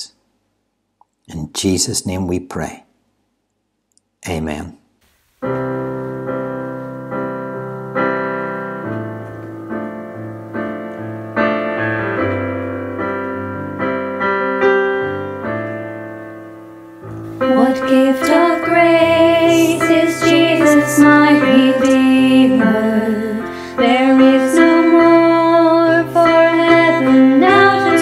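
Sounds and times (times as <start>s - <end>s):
piano playing slow chords: 5.4s - 28.0s.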